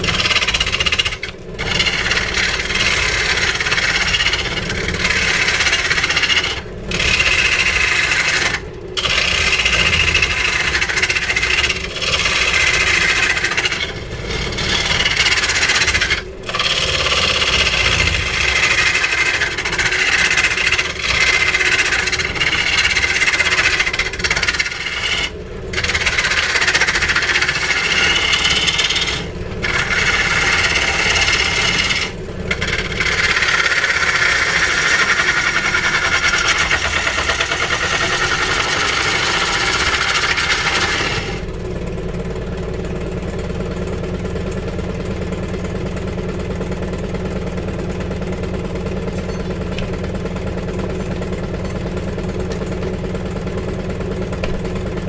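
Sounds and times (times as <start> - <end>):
tool scraping and cutting wood: 0.0 - 42.4, 48.7 - 55.0
motor hum: 0.0 - 55.0.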